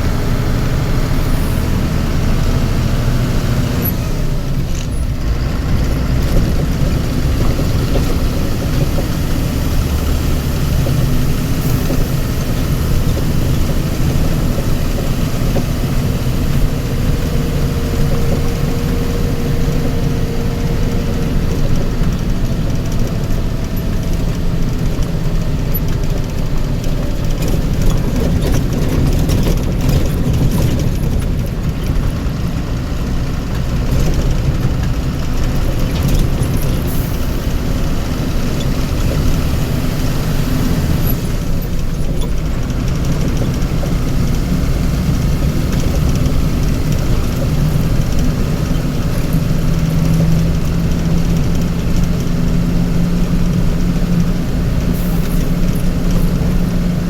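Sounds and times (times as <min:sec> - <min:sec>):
road noise: 0:00.0 - 0:57.0
vehicle engine running: 0:00.0 - 0:57.0.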